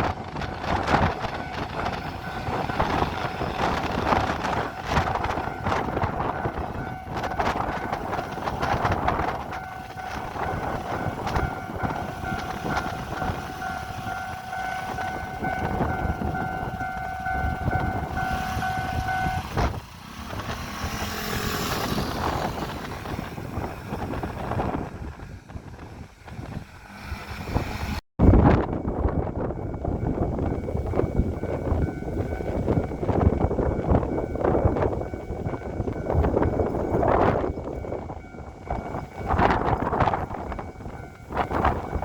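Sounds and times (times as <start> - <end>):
crossing warning bell ringing: 0.0 - 25.2, 28.4 - 42.0.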